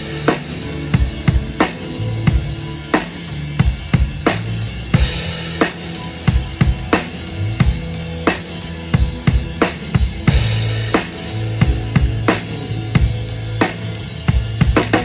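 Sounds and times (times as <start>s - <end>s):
drum kit playing steady beat: 0.0s - 15.0s
held bass notes: 0.0s - 15.0s.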